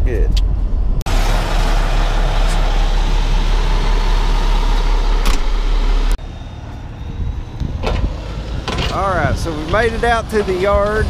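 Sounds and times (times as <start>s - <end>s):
low rumble: 0.0s - 11.0s
vehicle road and wind noise: 0.0s - 11.0s.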